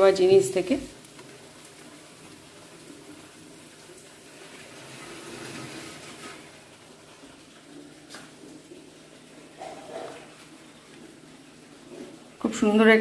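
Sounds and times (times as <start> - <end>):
pancake sizzling in a pan: 0.0 - 13.0.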